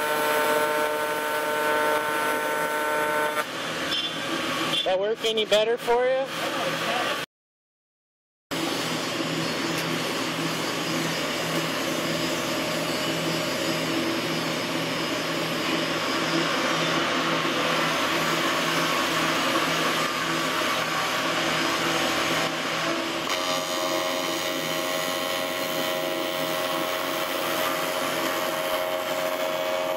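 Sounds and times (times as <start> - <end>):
fan-like mechanical whir: 0.0 - 5.4, 8.5 - 29.9.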